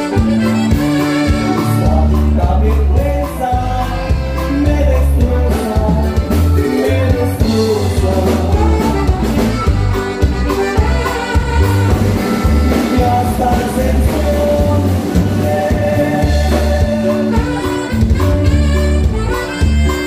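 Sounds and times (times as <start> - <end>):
live dance band music: 0.0 - 20.0
pumping bass line: 0.0 - 20.0.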